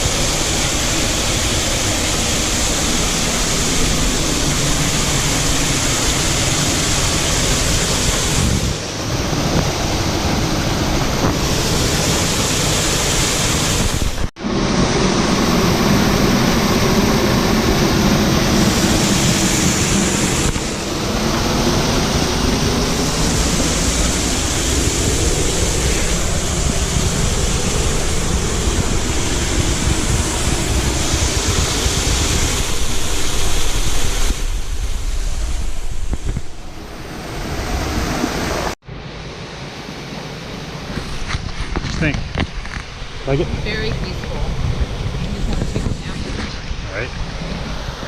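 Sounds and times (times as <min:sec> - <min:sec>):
waterfall rushing: 0:00.0 - 0:41.3.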